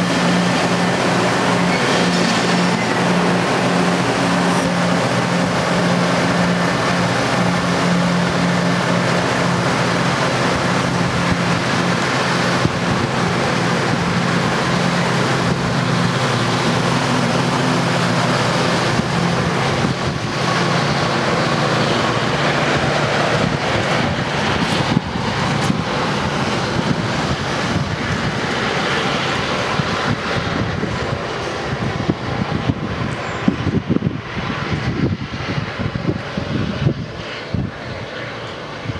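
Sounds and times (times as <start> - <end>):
train cars rushing past: 0.0 - 38.9
train engine drone: 0.0 - 38.9.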